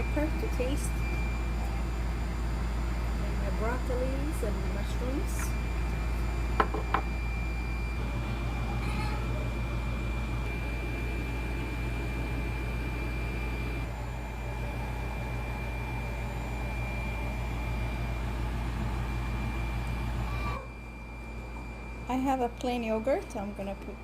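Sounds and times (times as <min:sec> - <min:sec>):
mechanical hum with low drone: 0:00.0 - 0:24.0.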